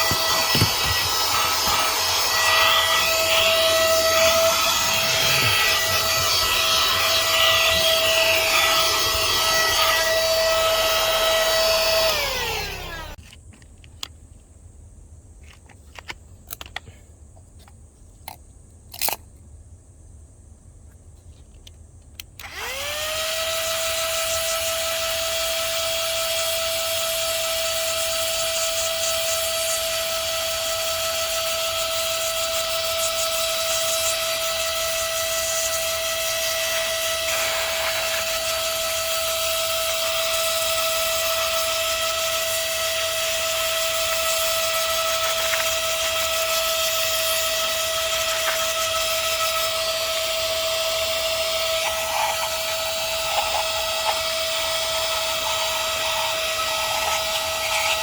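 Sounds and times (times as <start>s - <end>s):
handheld vacuum motor whine: 0.0s - 13.3s, 22.2s - 58.0s.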